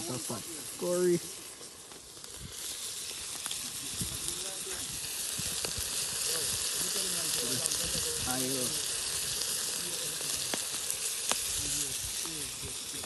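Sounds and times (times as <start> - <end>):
burning wood crackling: 0.0 - 13.0
steaming pot hissing: 0.0 - 13.0.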